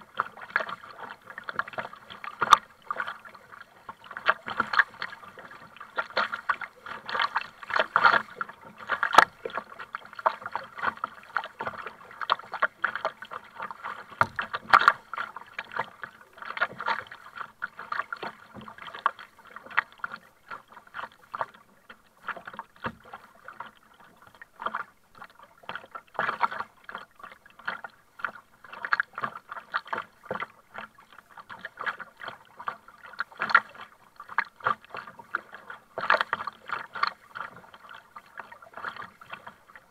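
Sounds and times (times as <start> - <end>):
kayak paddle splashing: 0.0 - 39.9
water lapping against kayak: 0.0 - 39.9.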